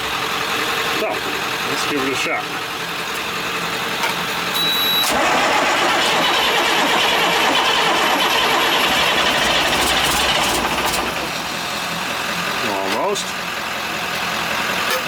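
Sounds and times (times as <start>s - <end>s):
diesel engine cranking on starter: 0.0s - 15.0s.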